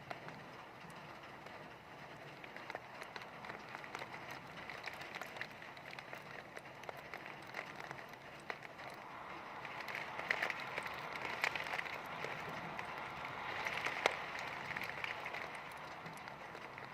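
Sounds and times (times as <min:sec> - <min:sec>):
heavy rain: 0:00.0 - 0:16.9.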